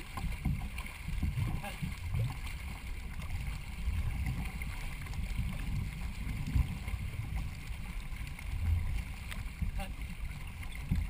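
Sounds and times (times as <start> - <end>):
water splashing along canoe: 0.0 - 11.0
wind rumble on microphone: 0.0 - 11.0.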